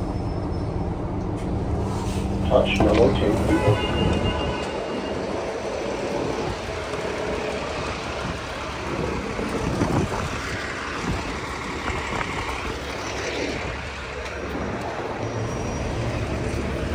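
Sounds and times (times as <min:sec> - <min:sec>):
diesel bus engine running: 0:00.0 - 0:16.9.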